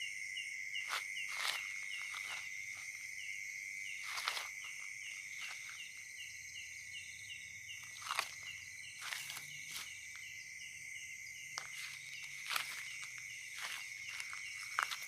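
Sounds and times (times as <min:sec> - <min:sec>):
cricket chirping: 0:00.0 - 0:15.0
insects droning: 0:00.0 - 0:15.0.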